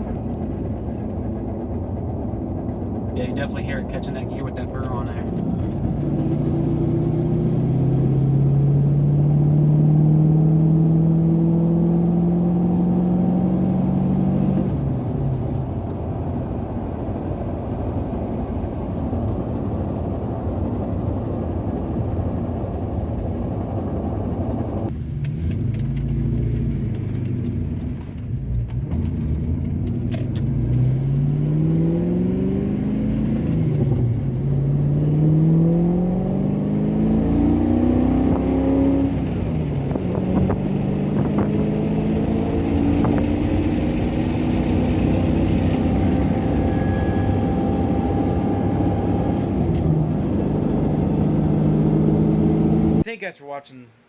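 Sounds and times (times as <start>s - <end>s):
car engine accelerating: 0.0s - 53.1s
road noise inside car: 0.0s - 53.1s.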